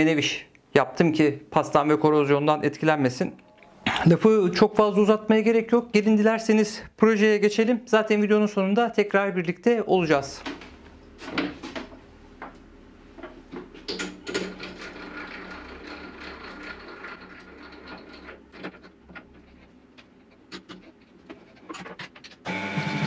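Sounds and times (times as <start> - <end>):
faint machine hum: 0.0 - 23.0.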